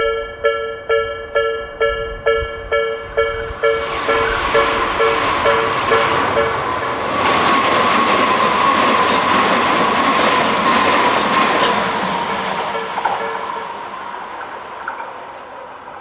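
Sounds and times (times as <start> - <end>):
crossing alarm bell clanging: 0.0 - 16.0
high steady train whine: 0.0 - 16.0
train wheels rumbling on rail: 0.0 - 16.0.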